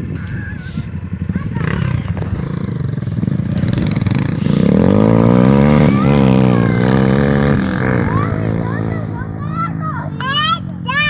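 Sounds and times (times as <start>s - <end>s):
dirt bike engine passing: 0.0s - 11.0s.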